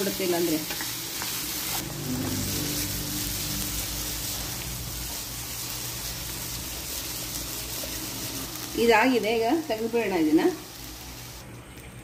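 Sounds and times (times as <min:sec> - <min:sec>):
potatoes sizzling in hot oil: 0:00.0 - 0:11.4.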